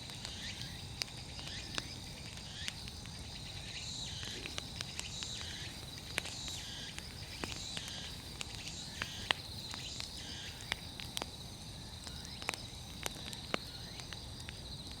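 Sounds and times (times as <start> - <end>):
bonfire crackling and popping: 0.0 - 15.0
insects chirring: 0.0 - 15.0.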